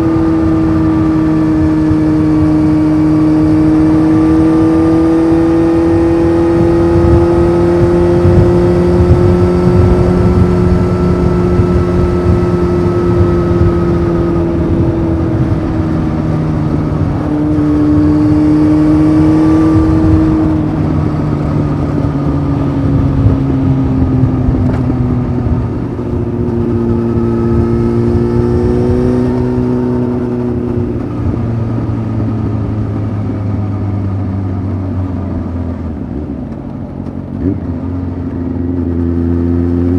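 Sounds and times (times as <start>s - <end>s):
motorcycle engine running: 0.0s - 39.9s
road rumble: 0.0s - 39.9s
wind: 0.0s - 39.9s.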